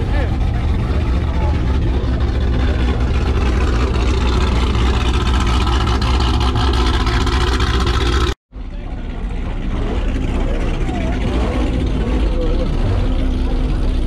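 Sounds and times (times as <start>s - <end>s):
car engine low exhaust rumble: 0.0s - 14.0s.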